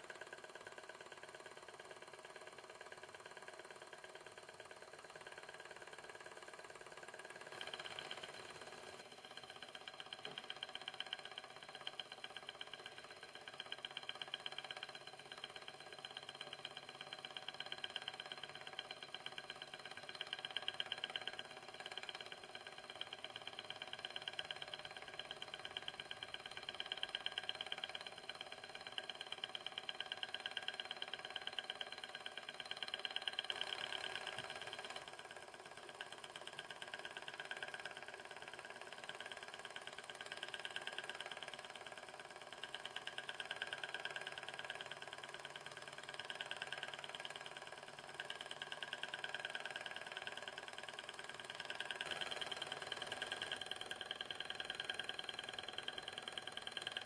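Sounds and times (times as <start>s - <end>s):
model engine mechanical ticking: 0.0s - 57.0s.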